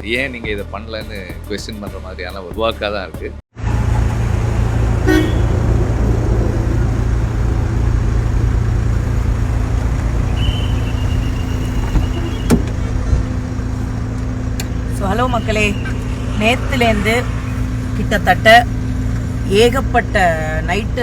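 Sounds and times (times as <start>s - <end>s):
car engine and road rumble: 3.6s - 21.0s.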